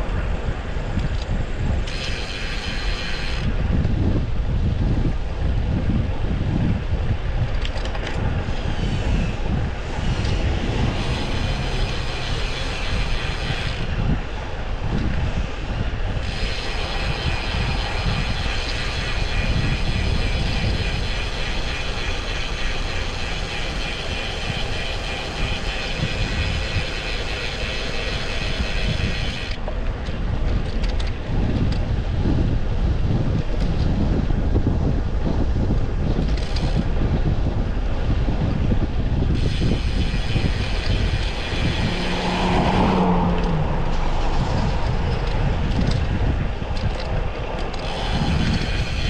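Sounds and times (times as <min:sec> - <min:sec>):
bicycle freehub clicking: 0:00.0 - 0:49.0
wind rumble on microphone: 0:00.0 - 0:49.0.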